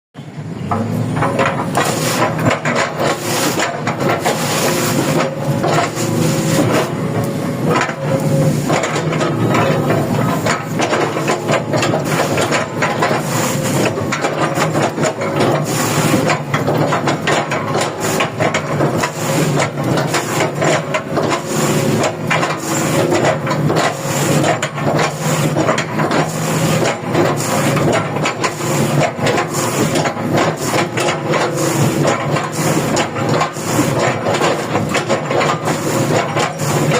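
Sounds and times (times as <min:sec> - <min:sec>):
excavator engine running: 0:00.2 - 0:36.9.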